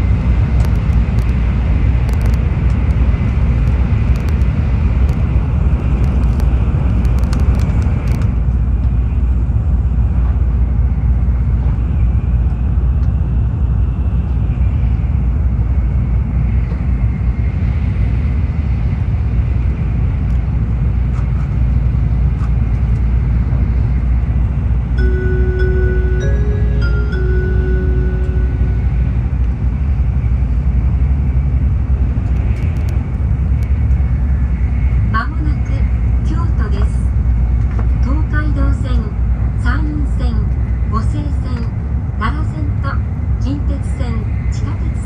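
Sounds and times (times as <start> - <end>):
train cabin rumble: 0.0 - 45.0.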